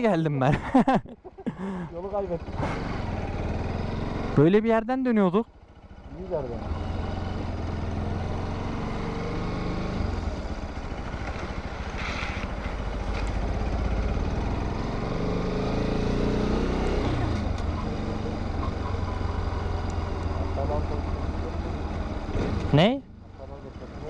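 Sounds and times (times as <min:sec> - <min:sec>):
motorcycle engine revving: 0:01.6 - 0:04.7, 0:05.5 - 0:24.0.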